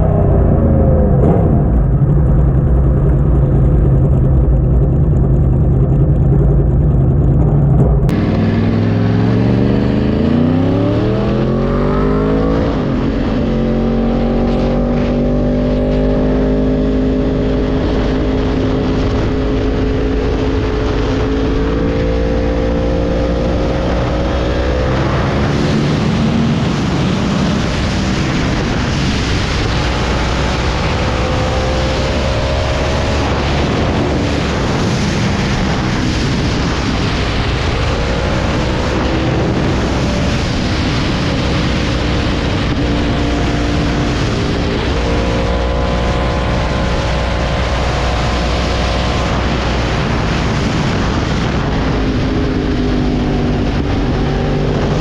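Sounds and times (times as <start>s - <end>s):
motorcycle engine accelerating: 0.0s - 55.0s
wind rushing: 0.0s - 55.0s.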